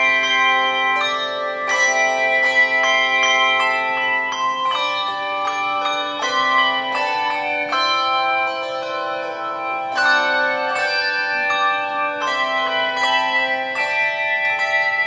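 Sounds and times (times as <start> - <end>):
handbell choir ringing: 0.0 - 15.0.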